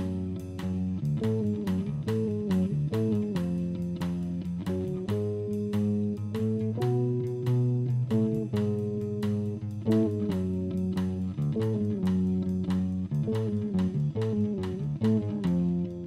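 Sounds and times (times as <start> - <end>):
plucked music with a beat: 0.0 - 16.0.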